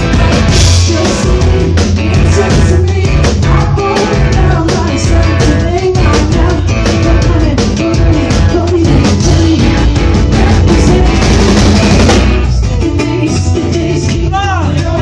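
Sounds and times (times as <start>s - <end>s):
drum kit beat: 0.0s - 15.0s
live rock band: 0.0s - 15.0s
person singing: 0.0s - 15.0s.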